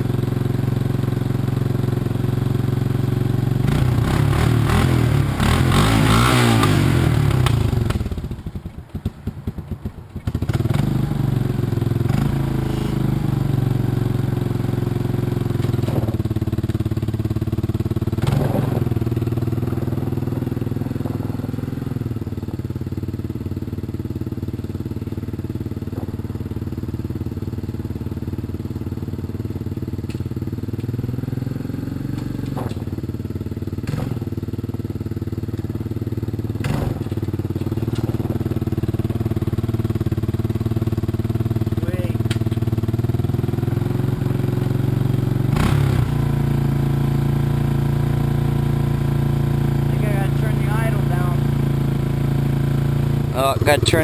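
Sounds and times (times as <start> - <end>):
quad engine fast idle: 10.2 - 54.0.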